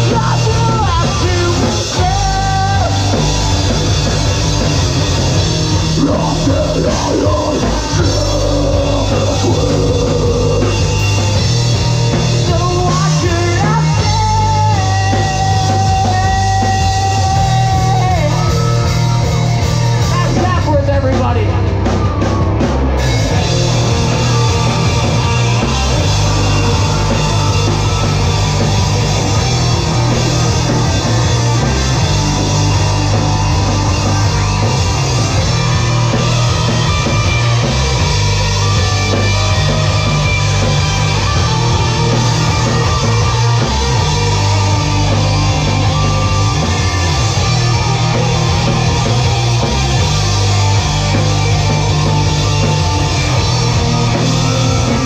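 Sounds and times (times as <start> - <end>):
rock band playing loud: 0.0 - 55.0.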